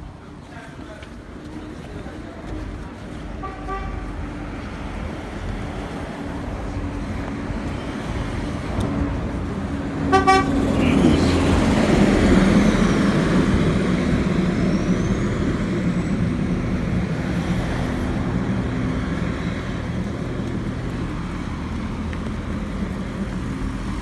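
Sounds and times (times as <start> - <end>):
road noise: 0.0 - 24.0
vehicle engine humming: 1.6 - 24.0.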